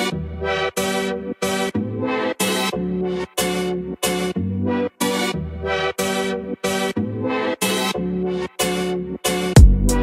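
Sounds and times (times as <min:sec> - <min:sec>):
chopped synth chords: 0:00.2 - 0:10.0.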